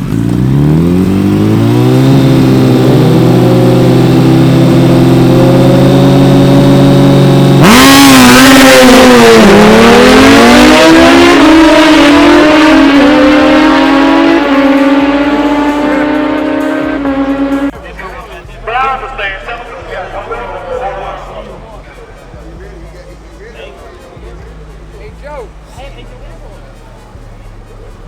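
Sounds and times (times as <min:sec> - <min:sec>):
cars launching and accelerating: 0:00.0 - 0:23.4
drag racing engines revving: 0:00.0 - 0:28.0.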